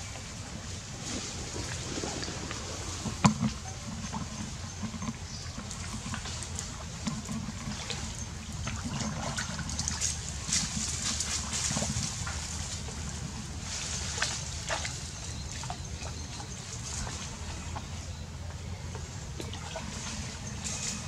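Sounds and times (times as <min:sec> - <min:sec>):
steady low rumble: 0:00.0 - 0:21.0
water splashing and trickling: 0:00.0 - 0:21.0.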